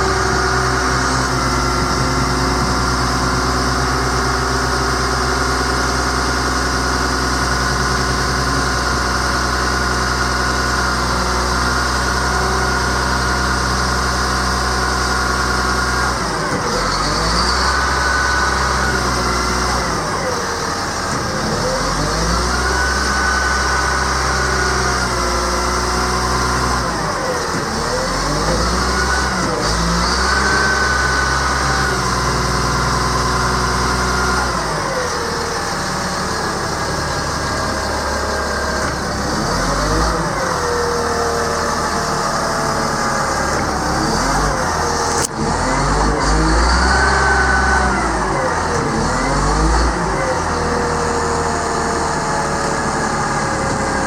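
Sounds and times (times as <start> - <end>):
diesel engine idling and revving: 0.0 - 54.0.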